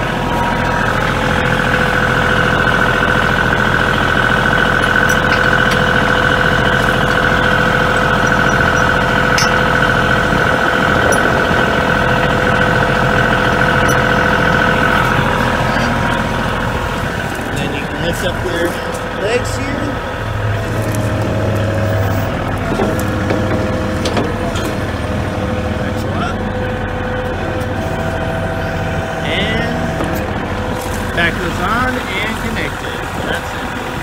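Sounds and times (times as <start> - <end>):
high whine: 0.0 - 34.0
tractor diesel engine running: 0.0 - 34.0.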